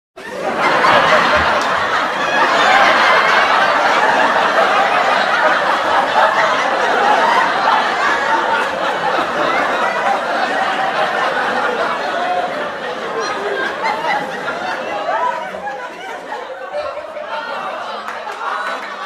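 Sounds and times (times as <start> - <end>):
studio audience laughing: 0.2 - 19.0.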